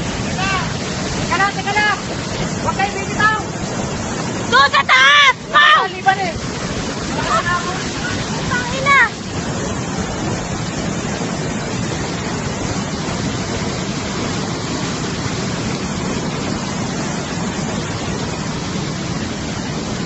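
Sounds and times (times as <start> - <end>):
water rushing over waterfall: 0.0 - 20.0.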